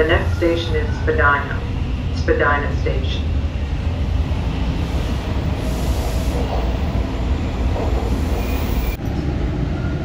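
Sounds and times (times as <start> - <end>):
subway train wheels rumbling on rail: 0.0 - 10.0.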